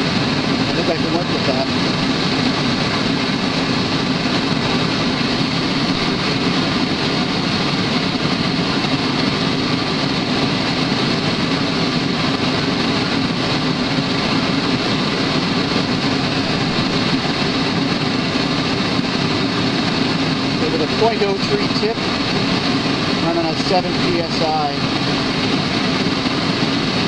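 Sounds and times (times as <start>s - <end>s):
gas burner flame rushing: 0.0s - 27.0s.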